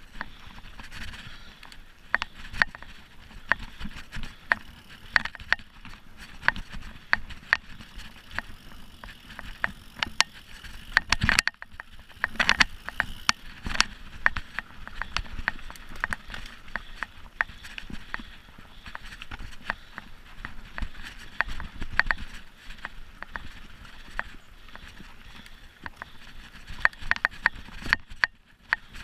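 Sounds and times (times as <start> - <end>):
bike clacking and rattling: 0.0 - 29.0
wind: 0.0 - 29.0.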